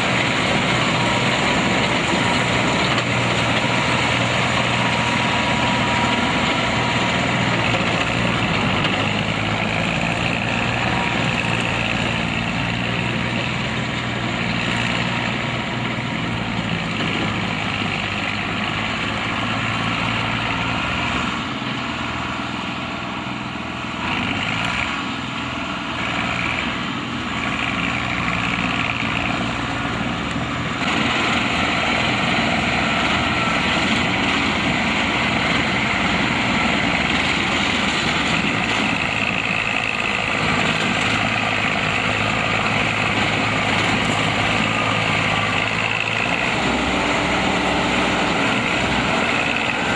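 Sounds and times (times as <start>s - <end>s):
combine harvester engine running: 0.0s - 49.9s.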